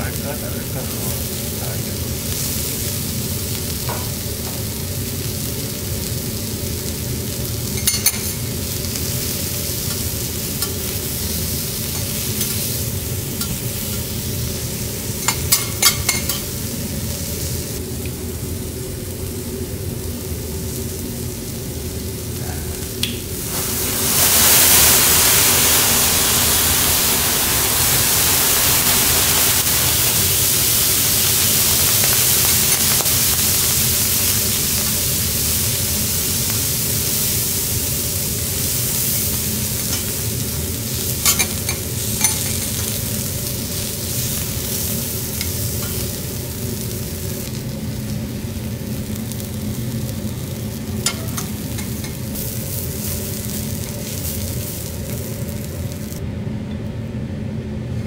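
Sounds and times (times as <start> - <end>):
loud steam hiss: 0.0 - 17.8, 19.3 - 49.3
steak sizzling on griddle: 0.0 - 56.2.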